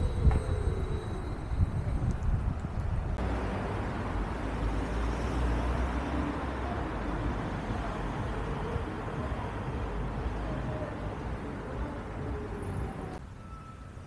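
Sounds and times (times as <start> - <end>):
low rumble of cars: 0.0 - 14.0.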